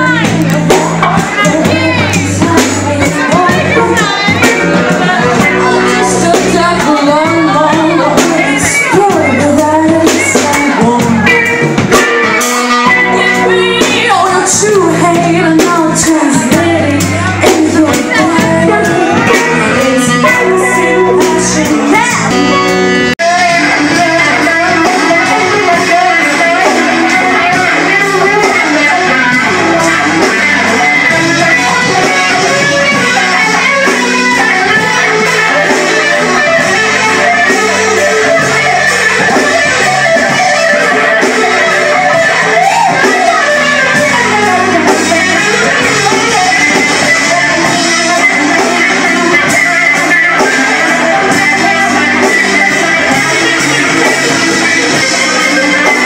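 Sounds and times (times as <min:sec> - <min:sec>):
live band with electric guitar: 0:00.0 - 0:56.0.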